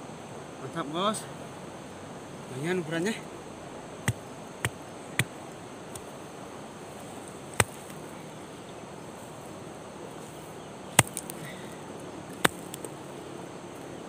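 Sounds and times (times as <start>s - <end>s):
insect drone: 0.0s - 14.0s.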